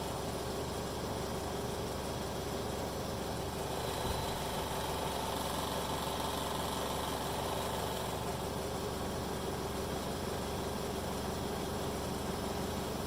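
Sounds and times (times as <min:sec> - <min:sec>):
pump motor humming and whining: 0:00.0 - 0:13.0.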